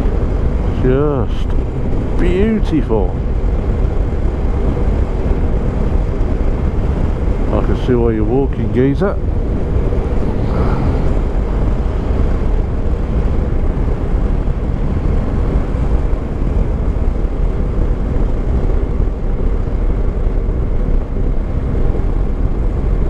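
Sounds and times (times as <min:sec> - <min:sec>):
wind rush: 0:00.0 - 0:23.0.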